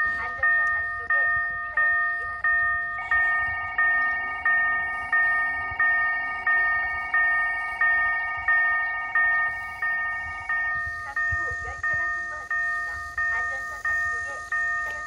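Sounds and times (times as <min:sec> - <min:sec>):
level crossing bell ringing: 0:00.0 - 0:15.0
warbling alarm tone: 0:00.0 - 0:15.0.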